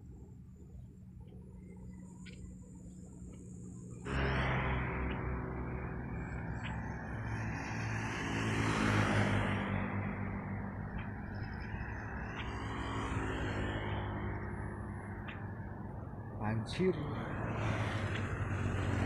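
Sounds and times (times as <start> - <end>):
motorbike and vehicle engines: 0.0 - 19.0
vehicle passing: 3.0 - 19.0.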